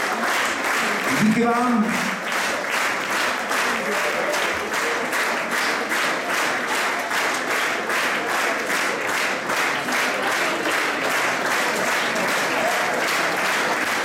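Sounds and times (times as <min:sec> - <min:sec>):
audience clapping in rhythm: 0:00.0 - 0:14.0.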